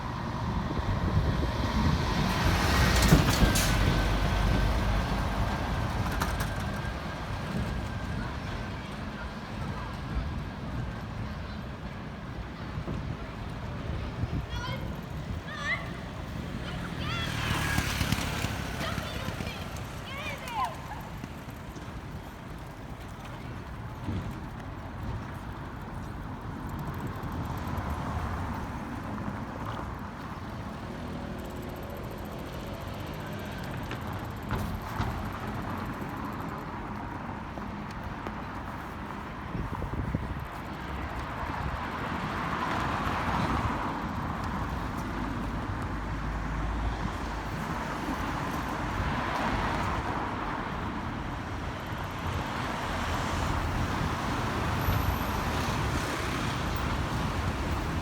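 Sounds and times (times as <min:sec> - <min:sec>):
steady hum of cars: 0:00.0 - 0:58.0
vehicles passing: 0:00.0 - 0:58.0.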